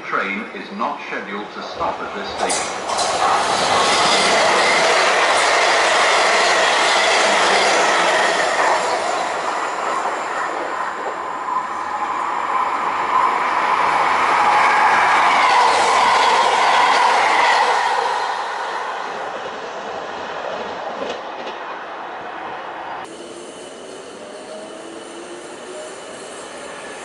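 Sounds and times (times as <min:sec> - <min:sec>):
train wheel-on-rail roar: 0:00.0 - 0:27.0.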